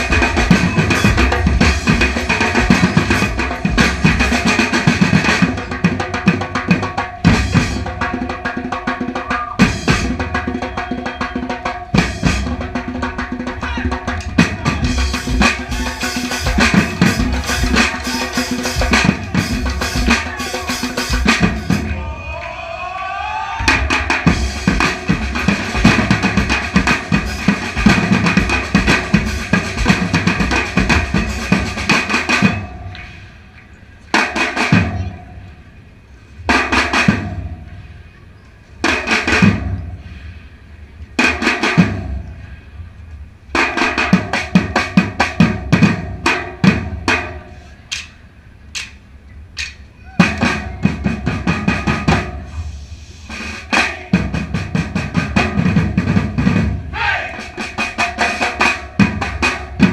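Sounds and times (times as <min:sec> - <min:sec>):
percussion ensemble drumming: 0:00.0 - 0:22.3, 0:23.6 - 0:33.4, 0:34.1 - 0:35.5, 0:36.5 - 0:37.7, 0:38.8 - 0:40.0, 0:41.2 - 0:42.2, 0:43.5 - 0:49.0, 0:49.6 - 0:59.9.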